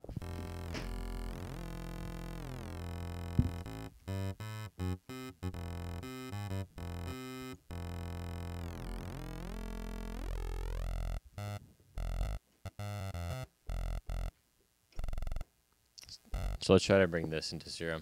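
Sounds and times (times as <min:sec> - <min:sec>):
synthesizer notes with sweeping phaser: 0:00.0 - 0:14.3, 0:15.0 - 0:15.4, 0:16.3 - 0:16.6.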